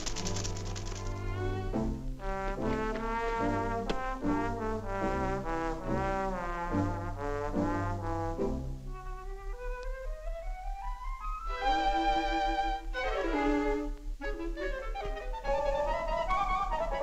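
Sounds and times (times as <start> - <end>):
orchestral cartoon music with brass: 1.1 - 17.0.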